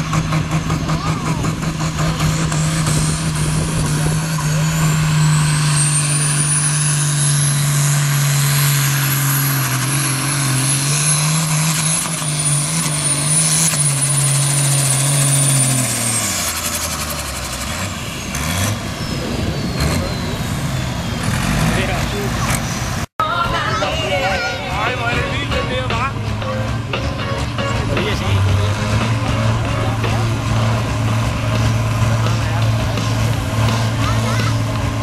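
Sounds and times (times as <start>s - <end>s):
tractor diesel engine roaring: 0.0s - 35.0s.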